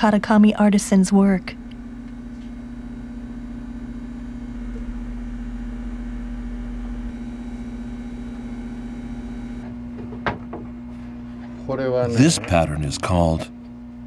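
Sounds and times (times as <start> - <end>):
steady mid-low hum: 0.0 - 14.0.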